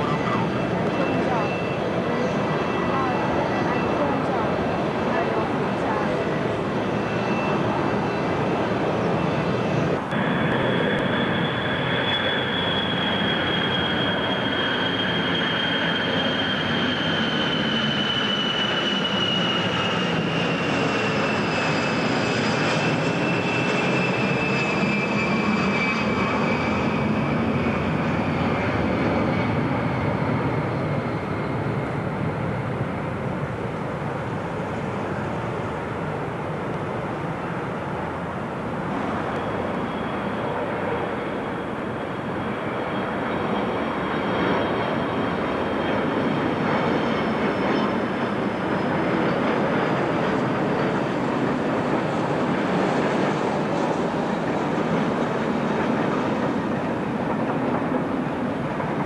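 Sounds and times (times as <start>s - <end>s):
high engine whine: 0.0s - 59.0s
jet engines running: 0.0s - 59.0s.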